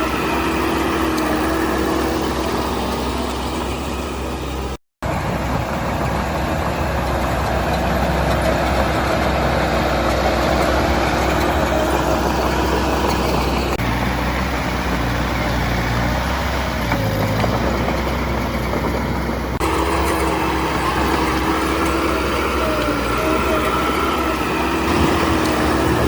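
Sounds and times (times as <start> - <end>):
diesel engine of construction machinery: 0.0 - 26.0.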